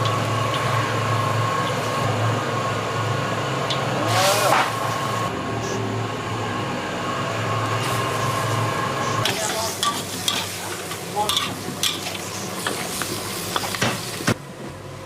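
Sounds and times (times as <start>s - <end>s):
wok burner roaring: 0.0s - 15.0s.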